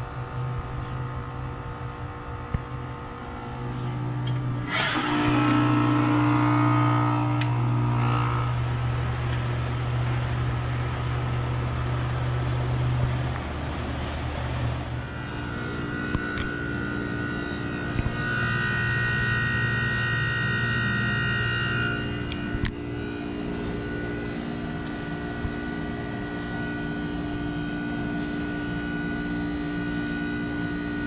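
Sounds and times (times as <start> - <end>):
compressor running: 0.0 - 31.0
heat pump humming: 0.0 - 31.0.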